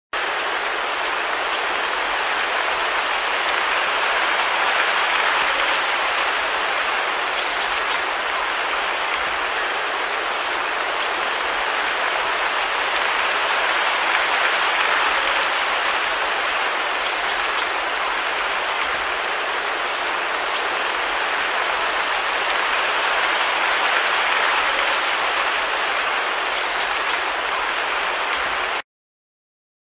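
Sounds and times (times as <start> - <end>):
waterfall pouring into pool: 0.2 - 28.8.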